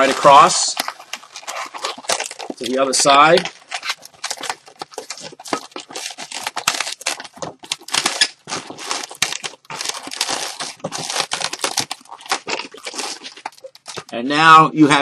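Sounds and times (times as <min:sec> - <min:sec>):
latex balloons rubbing and crinkling: 0:00.0 - 0:14.3.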